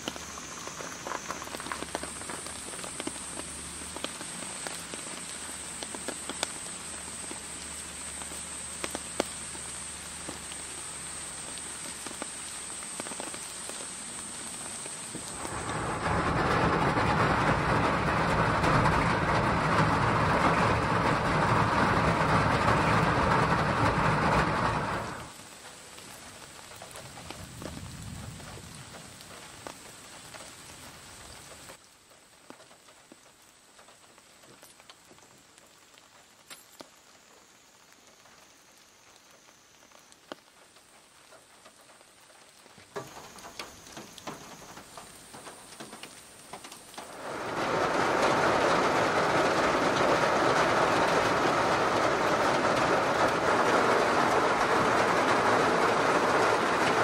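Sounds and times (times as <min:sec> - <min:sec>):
rain drumming on a roof: 0:00.0 - 0:57.0.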